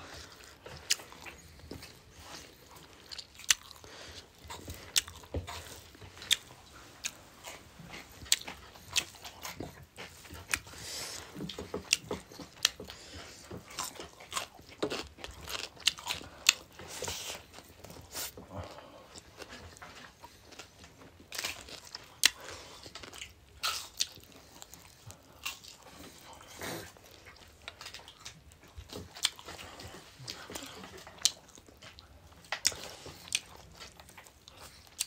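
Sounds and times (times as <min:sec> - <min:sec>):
chewing and biting: 0:00.0 - 0:35.0.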